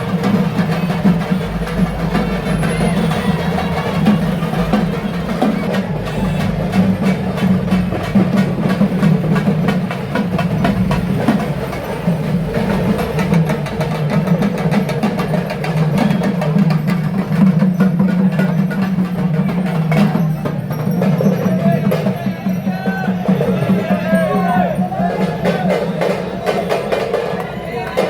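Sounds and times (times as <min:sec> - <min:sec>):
traditional drumming: 0:00.0 - 0:28.0.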